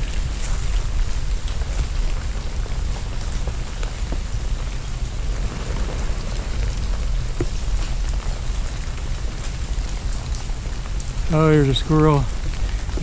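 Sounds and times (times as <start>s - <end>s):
freezing rain pattering: 0.0s - 13.0s
low rumble: 0.0s - 13.0s.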